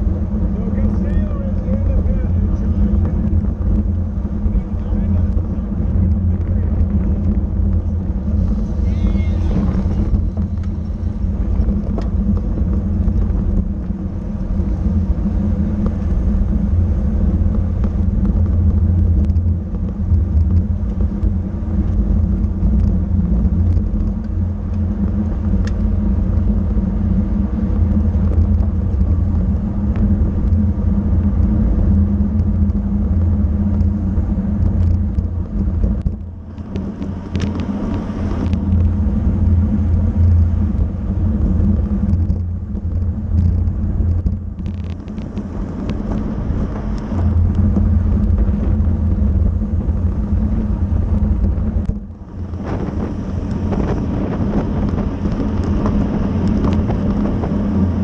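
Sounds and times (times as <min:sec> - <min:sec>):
road rumble: 0:00.0 - 0:58.0
wind rushing on microphone: 0:00.0 - 0:58.0.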